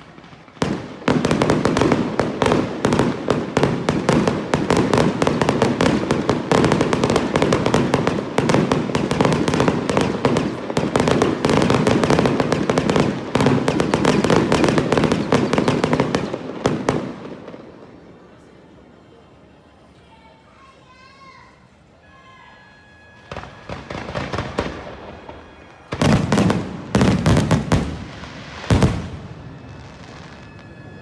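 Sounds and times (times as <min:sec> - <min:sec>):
fireworks cracking and banging: 0:00.0 - 0:18.6, 0:23.1 - 0:31.0.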